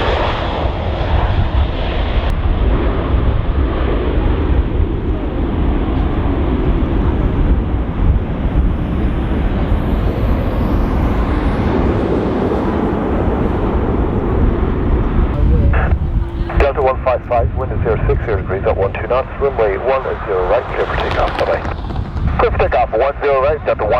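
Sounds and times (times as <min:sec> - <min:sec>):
jet engines at takeoff: 0:00.0 - 0:23.9
wind buffeting microphone: 0:00.6 - 0:23.9.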